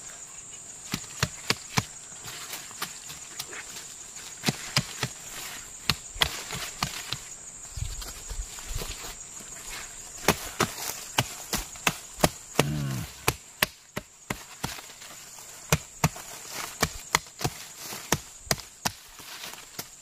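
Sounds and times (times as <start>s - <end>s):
high insect drone: 0.0s - 20.0s
hand tool chopping soil: 0.8s - 7.3s, 8.0s - 20.0s.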